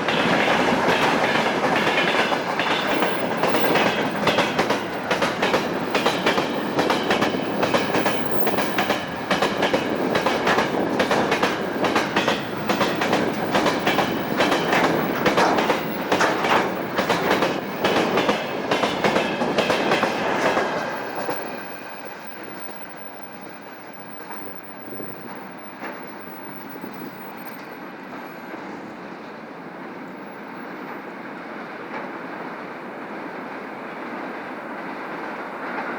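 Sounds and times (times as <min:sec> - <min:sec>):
train wheels clacking: 0:00.0 - 0:28.8
train rumble: 0:00.0 - 0:35.9.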